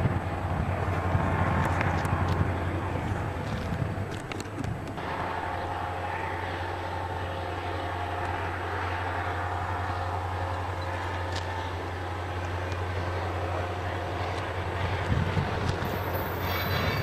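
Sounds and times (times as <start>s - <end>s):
diesel locomotive engines droning: 0.0s - 17.0s.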